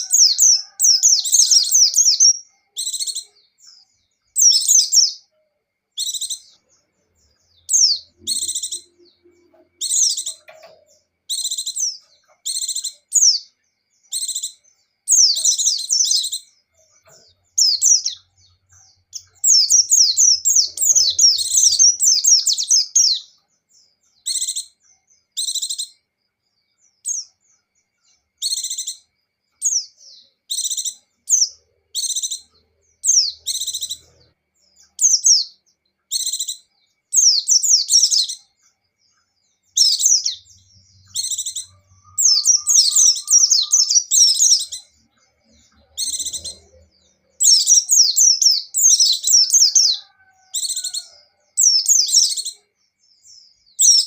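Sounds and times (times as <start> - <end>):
birds chirping and warbling: 0.0 - 54.0.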